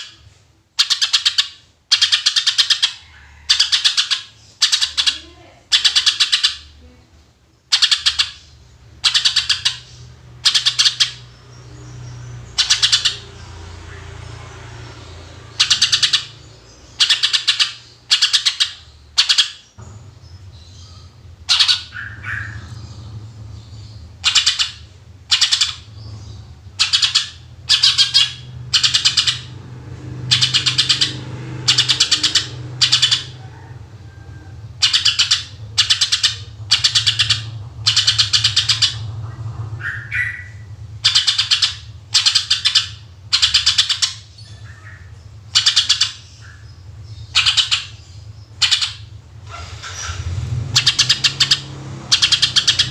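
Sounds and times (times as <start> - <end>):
bird singing rapid notes: 0.0 - 6.8, 7.5 - 52.9
steady low hum: 4.0 - 52.9.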